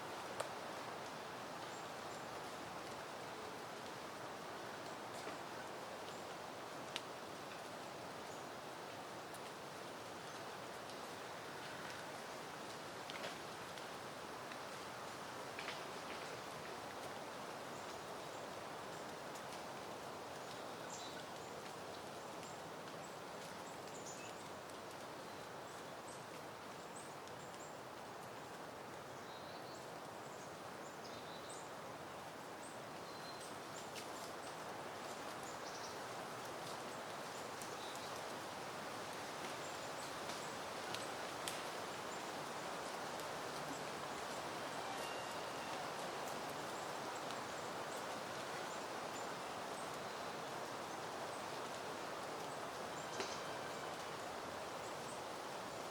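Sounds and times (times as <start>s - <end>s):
wind rustling through foliage: 0.0s - 55.9s.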